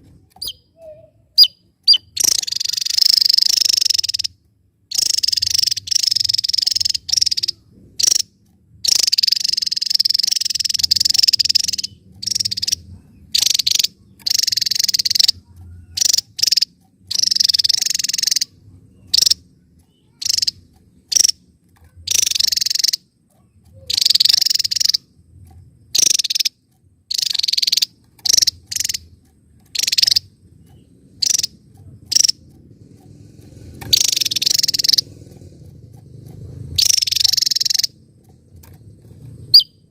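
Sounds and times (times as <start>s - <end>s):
bird singing high phrases: 0.3s - 21.4s, 22.0s - 25.1s, 25.9s - 32.4s, 33.8s - 35.1s, 36.8s - 38.0s, 39.4s - 39.9s.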